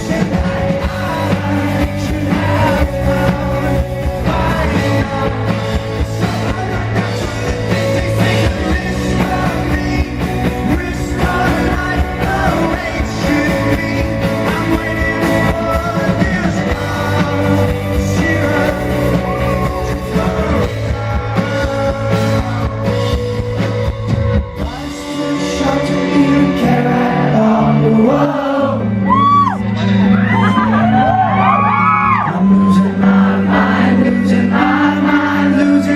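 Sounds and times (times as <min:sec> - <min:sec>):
lead vocal singing: 0:00.0 - 0:35.9
rock band playing live: 0:00.0 - 0:35.9.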